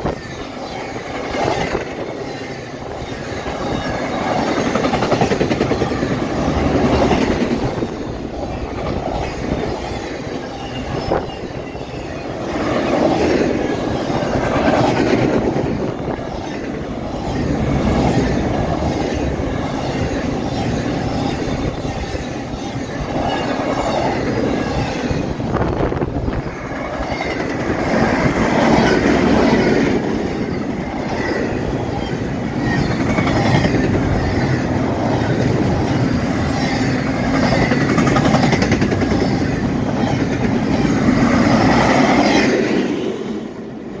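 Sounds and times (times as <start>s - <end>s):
freight train wheels clattering: 0.0s - 43.7s.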